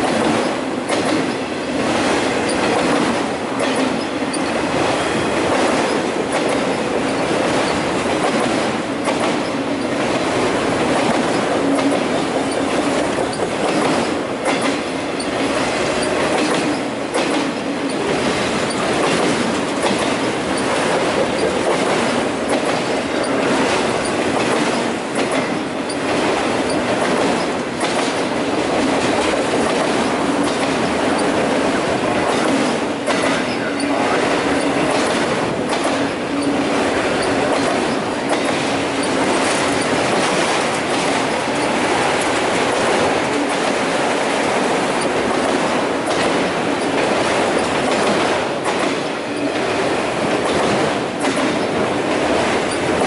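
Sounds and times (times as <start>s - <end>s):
train wheels rumbling on rail: 0.0s - 53.0s
wheels clacking over rail joints: 0.0s - 53.0s.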